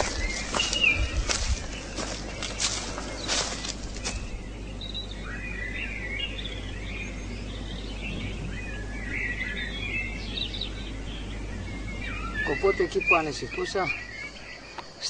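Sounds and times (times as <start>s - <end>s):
low background hum: 0.0s - 15.0s
songbirds chirping and warbling: 0.0s - 15.0s.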